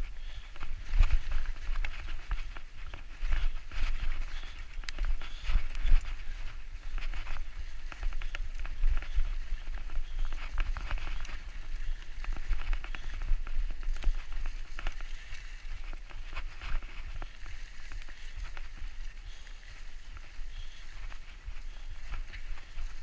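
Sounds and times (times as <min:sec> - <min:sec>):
grass swishing against bike: 0:00.0 - 0:23.0
wind rumble: 0:00.0 - 0:23.0.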